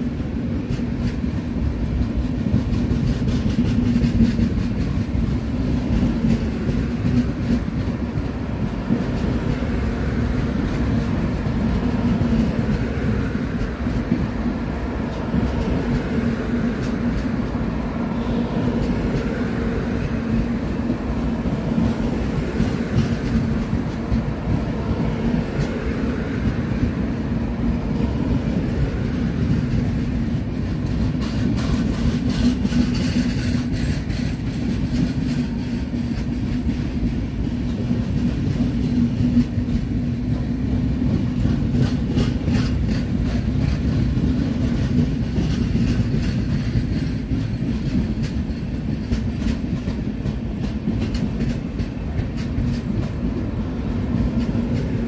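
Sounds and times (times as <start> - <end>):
train rumbling along track: 0.0 - 55.0
wheels clicking over rail joints: 0.0 - 55.0.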